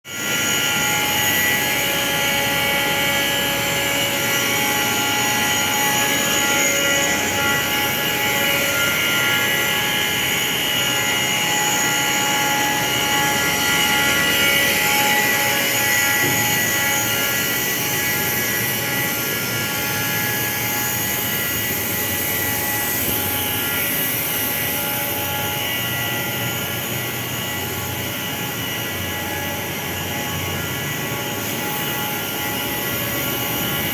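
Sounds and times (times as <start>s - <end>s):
machinery whirring: 0.1s - 33.9s
steady whining tones: 0.1s - 33.9s.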